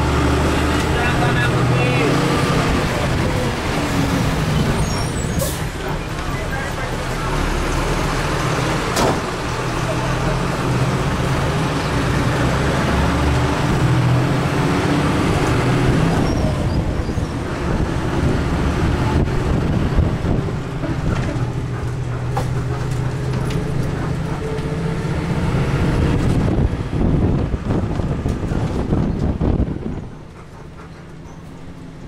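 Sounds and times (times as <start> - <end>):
road and wind noise: 0.0 - 32.0
truck engine running: 0.0 - 32.0.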